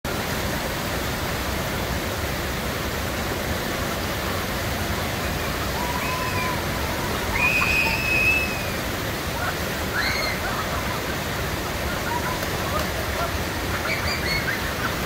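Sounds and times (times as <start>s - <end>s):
water rushing down a channel: 0.1s - 15.0s.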